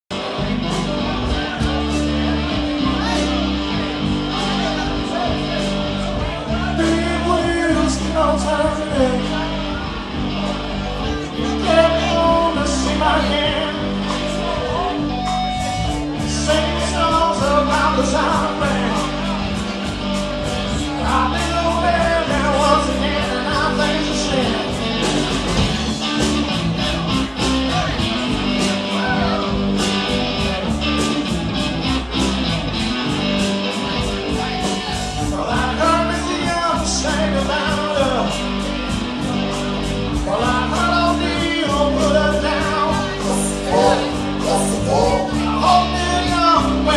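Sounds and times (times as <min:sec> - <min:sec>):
bass guitar: 0:00.0 - 0:46.9
drums: 0:00.1 - 0:46.9
electric guitars: 0:00.1 - 0:46.9.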